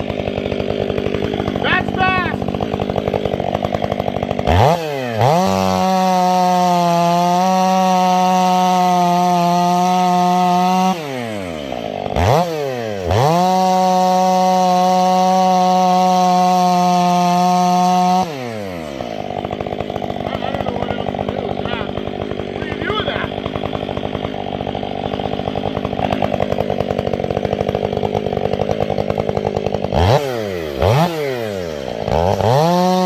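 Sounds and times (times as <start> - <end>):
chainsaw idling and revving: 0.0 - 33.0.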